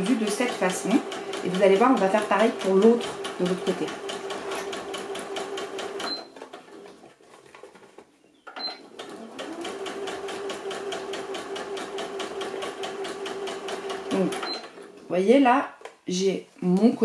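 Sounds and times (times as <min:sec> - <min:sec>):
sewing machine stitching: 0:00.0 - 0:07.8, 0:08.7 - 0:15.0.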